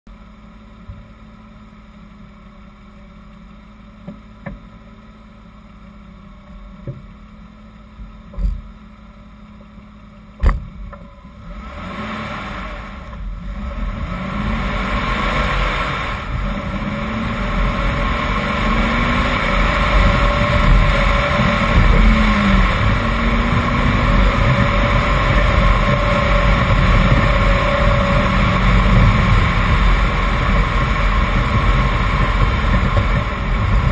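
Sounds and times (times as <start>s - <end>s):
car engine accelerating: 0.3s - 33.9s
tyre and road noise: 5.8s - 33.9s.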